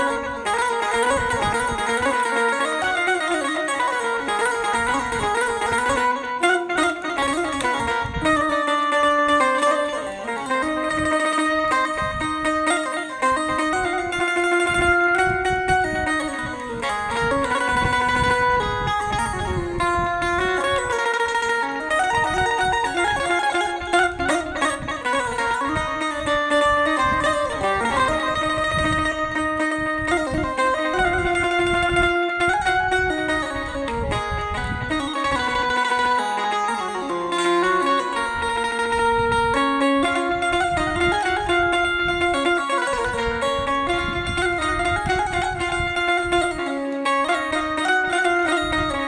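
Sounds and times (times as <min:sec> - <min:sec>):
banjo melody: 0:00.0 - 0:49.0.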